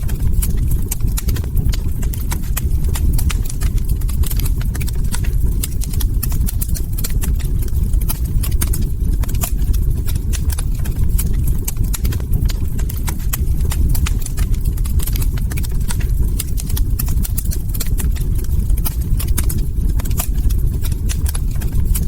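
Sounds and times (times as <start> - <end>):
log fire crackling: 0.0 - 22.0.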